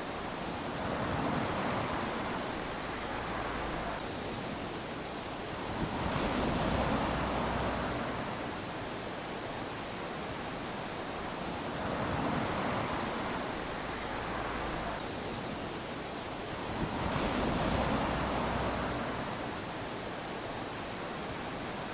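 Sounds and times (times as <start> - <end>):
small waves washing on beach: 0.0 - 21.9.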